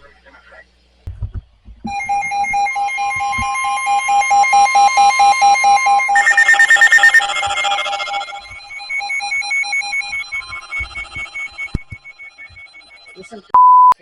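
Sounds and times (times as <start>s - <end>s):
rapid beeping alert tone: 1.9s - 13.5s
steady alert tone: 1.9s - 13.5s
higher-pitched beeping alarm: 1.9s - 13.6s.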